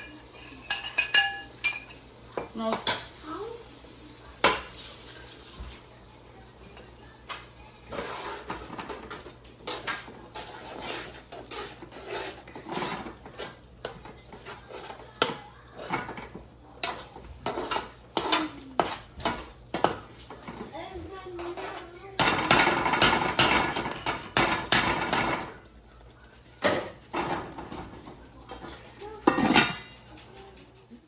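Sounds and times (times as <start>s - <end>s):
spoon stirring and scraping in pot: 0.0s - 31.0s.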